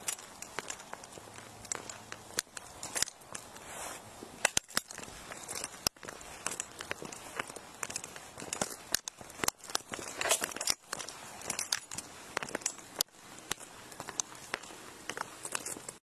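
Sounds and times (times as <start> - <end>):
footsteps on concrete: 0.0 - 16.0.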